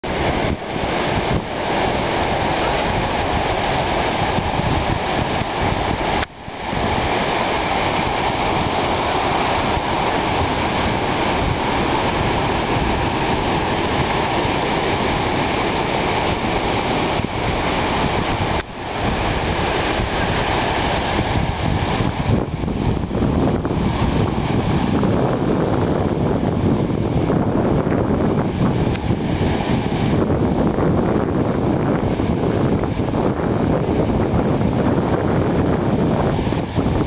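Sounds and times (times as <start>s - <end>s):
ocean surf breaking: 0.0s - 37.0s
wind noise on microphone: 0.0s - 37.0s.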